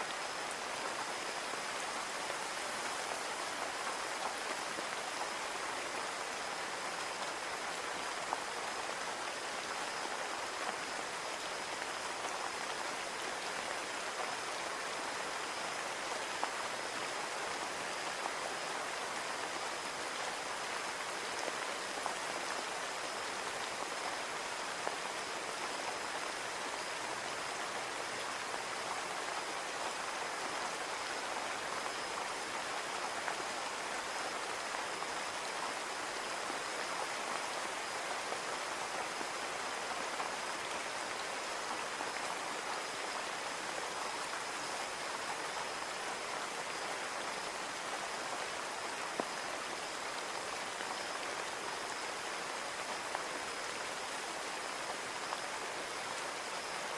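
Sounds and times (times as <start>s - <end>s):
rain falling on a window: 0.1s - 56.9s.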